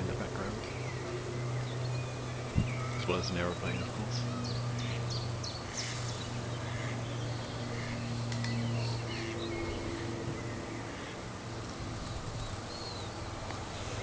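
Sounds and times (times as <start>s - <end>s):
aeroplane drone overhead: 0.0s - 14.0s
bird calls and song: 0.0s - 14.0s.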